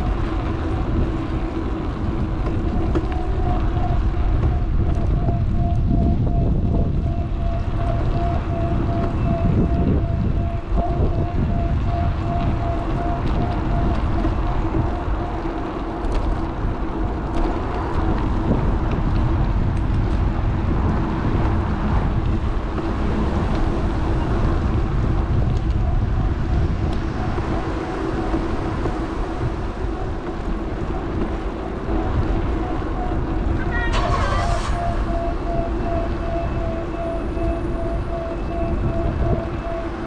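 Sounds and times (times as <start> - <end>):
bike road noise: 0.0 - 40.0
wind buffeting microphone: 0.0 - 40.0.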